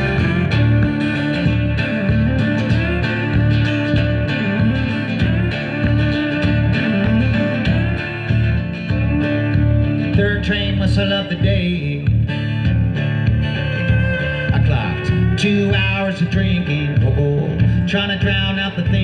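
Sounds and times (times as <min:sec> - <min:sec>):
guitar: 0:00.0 - 0:19.0
live band playing: 0:00.0 - 0:19.0
steady low beat: 0:00.0 - 0:19.0.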